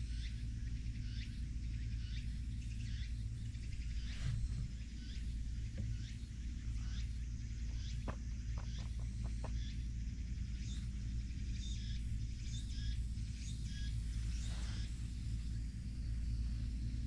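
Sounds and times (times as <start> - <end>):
steady low rumble: 0.0 - 17.0
birds chirping: 0.2 - 17.0.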